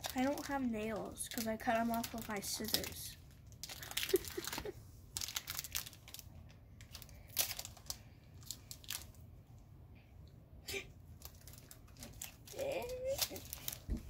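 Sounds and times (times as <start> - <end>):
foil wrapper crinkling: 0.0 - 9.2, 11.2 - 14.0.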